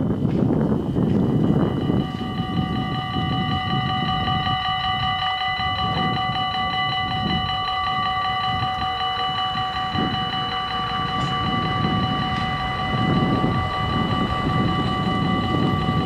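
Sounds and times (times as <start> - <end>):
level-crossing warning bells ringing: 0.0 - 16.0
low rumbling noise: 0.0 - 16.0.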